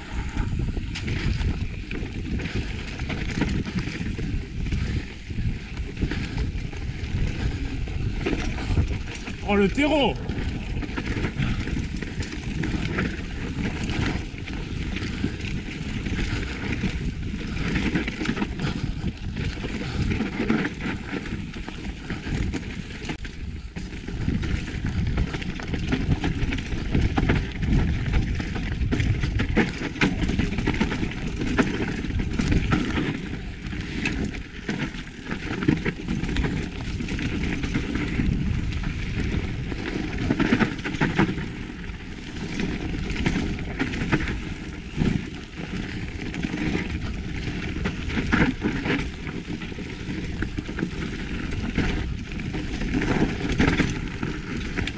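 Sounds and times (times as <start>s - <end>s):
bike clattering and rattling: 0.0s - 54.9s.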